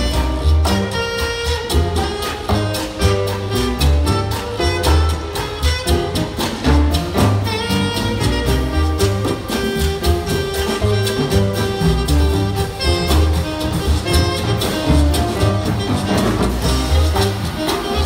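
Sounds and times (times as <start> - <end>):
big band playing jazz: 0.0 - 18.0
saxophone lead line: 0.0 - 18.0.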